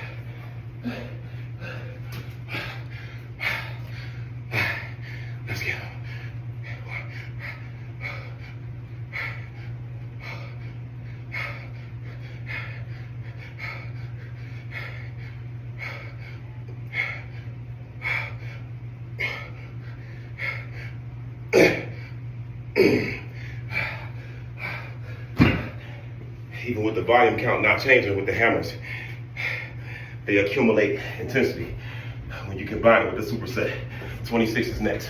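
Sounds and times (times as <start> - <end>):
man breathing hard: 0.0 - 26.2, 28.7 - 32.6, 33.6 - 34.4
low hum: 0.0 - 35.0.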